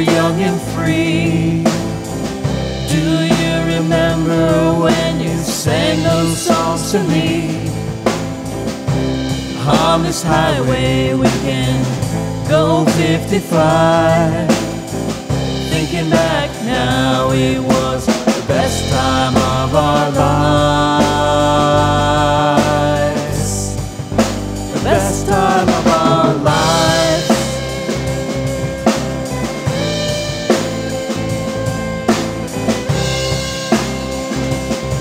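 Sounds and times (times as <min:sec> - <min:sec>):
bass guitar: 0:00.0 - 0:35.0
drum kit: 0:00.0 - 0:35.0
electric guitar: 0:00.0 - 0:35.0
sliding lead melody: 0:00.0 - 0:35.0.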